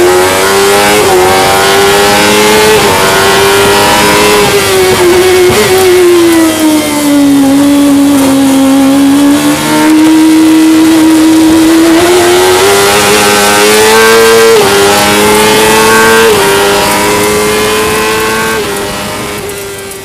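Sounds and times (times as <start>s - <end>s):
sports car engine at speed: 0.0s - 20.0s.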